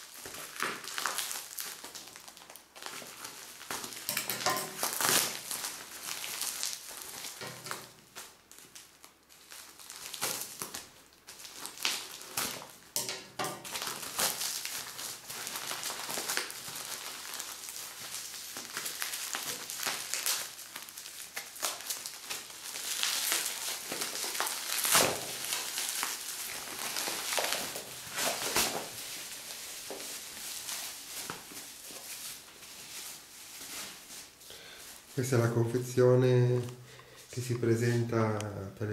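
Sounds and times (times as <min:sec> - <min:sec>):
plastic and bubble wrap crinkling: 0:00.0 - 0:38.9.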